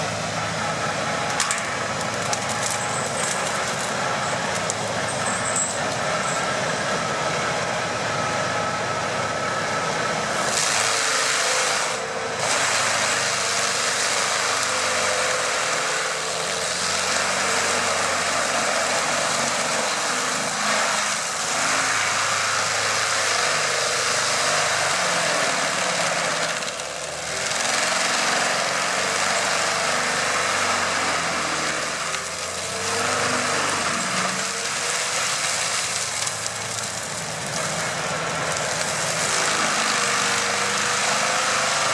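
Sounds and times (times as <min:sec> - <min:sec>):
mulcher grinding wood: 0:00.0 - 0:41.9
tractor engine under load: 0:00.0 - 0:41.9.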